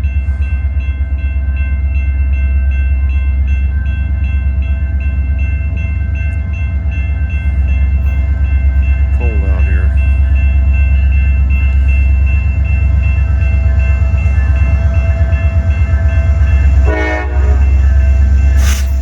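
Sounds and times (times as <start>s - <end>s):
freight train rumbling past: 0.0s - 19.0s.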